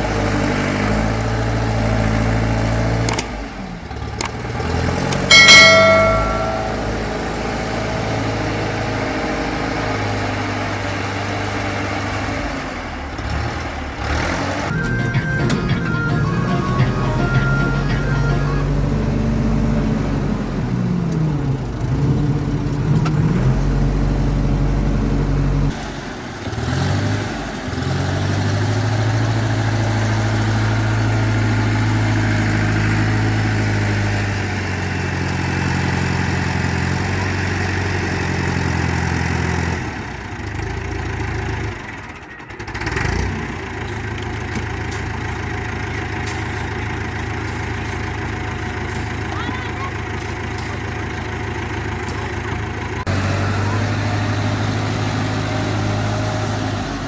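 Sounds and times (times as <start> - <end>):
backhoe diesel engine revving: 0.0 - 57.0.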